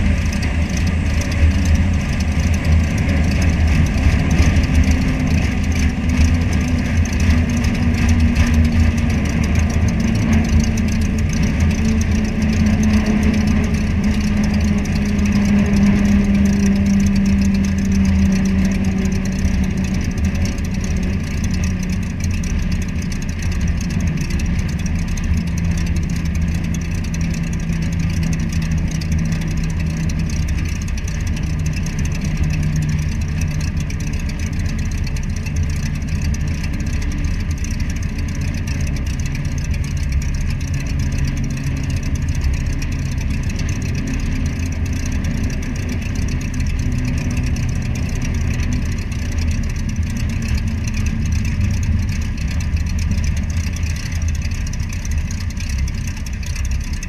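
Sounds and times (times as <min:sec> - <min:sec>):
light aircraft engine rumble: 0:00.0 - 0:57.0.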